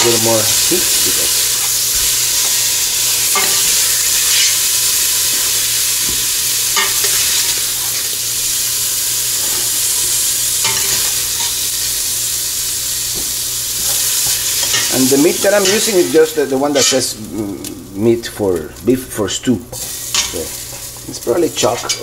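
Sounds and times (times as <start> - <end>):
meat sizzling in a pot: 0.0 - 22.0.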